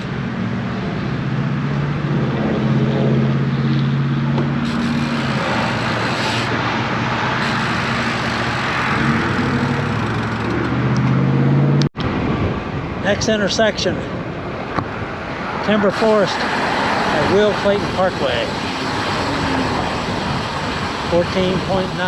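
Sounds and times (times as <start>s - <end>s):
tyre and road noise: 0.0s - 22.0s
vehicle engine hum: 0.0s - 22.0s.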